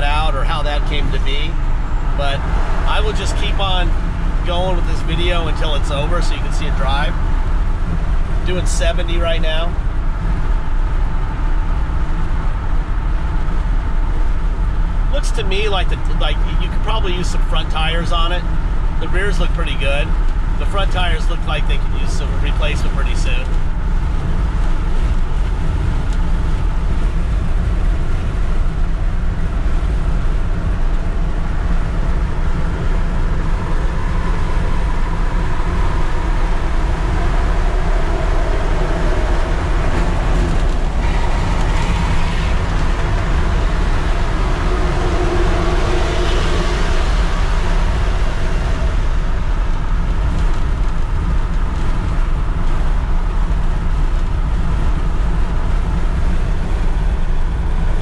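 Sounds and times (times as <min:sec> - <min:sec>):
truck cab road and engine rumble: 0:00.0 - 0:58.0.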